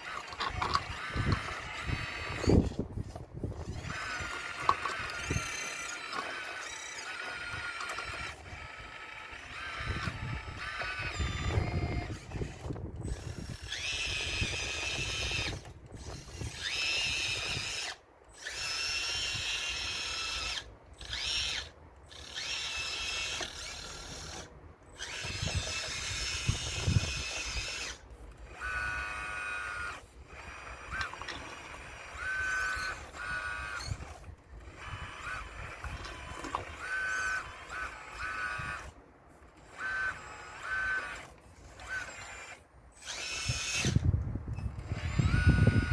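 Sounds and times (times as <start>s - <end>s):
electric motors whining: 0.0s - 45.9s.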